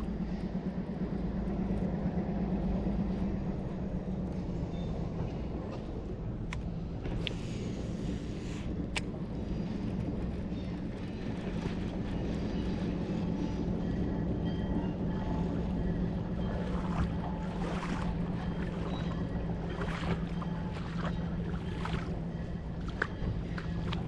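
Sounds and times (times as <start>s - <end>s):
boat motor humming: 0.0s - 24.0s
wind: 0.0s - 24.0s.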